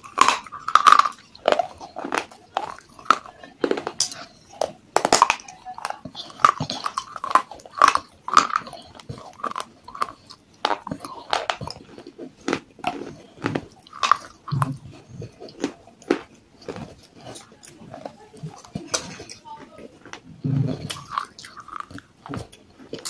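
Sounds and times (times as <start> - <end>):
clay pieces crunching when chewed: 0.0 - 23.0.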